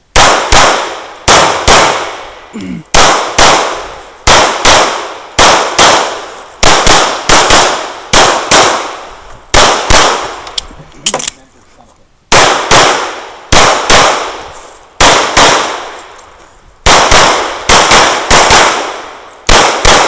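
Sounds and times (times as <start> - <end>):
pistol shots: 0.1 - 11.2, 12.3 - 16.1, 16.8 - 20.0.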